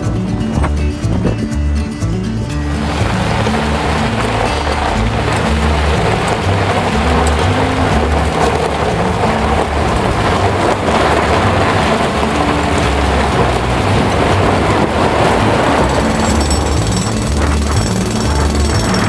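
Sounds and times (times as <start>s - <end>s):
road noise: 0.0s - 19.0s
vehicles passing: 0.0s - 19.0s.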